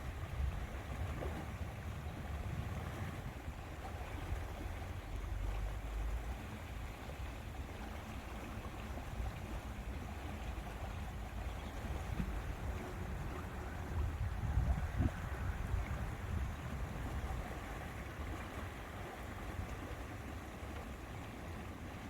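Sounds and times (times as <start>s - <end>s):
wind rumble on microphone: 0.0s - 21.6s
water lapping: 0.0s - 22.0s.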